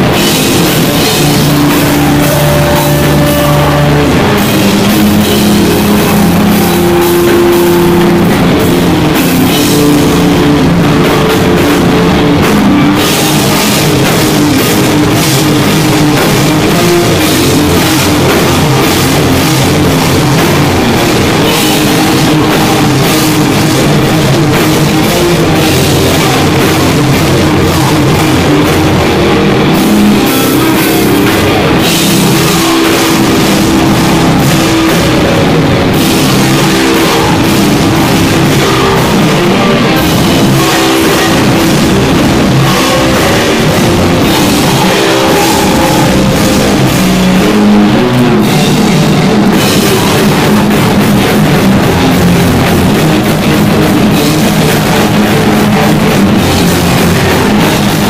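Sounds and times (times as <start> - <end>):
drum kit with crashing cymbals: 0.0 - 58.0
electric guitars: 0.0 - 58.0.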